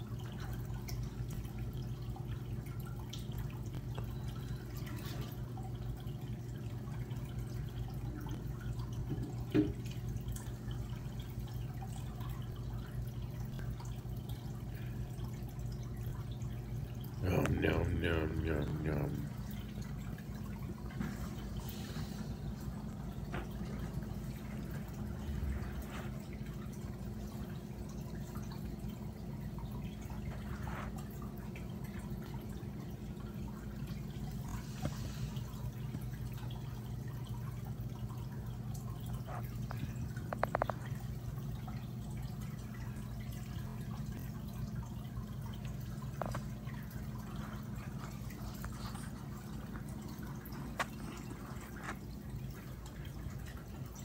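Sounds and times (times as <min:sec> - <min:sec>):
water dripping and bubbling: 0:00.0 - 0:54.0.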